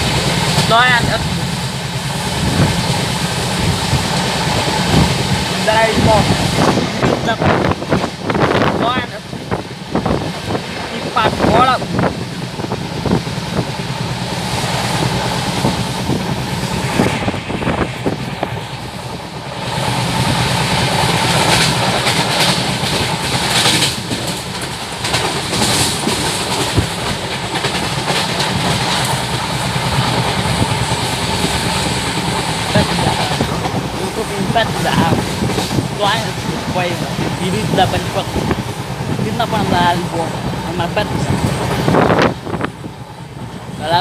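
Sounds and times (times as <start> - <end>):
rail joint clicks: 0.0 - 43.8
rushing air: 0.0 - 43.8
train wheels rumbling on rail: 0.0 - 44.0.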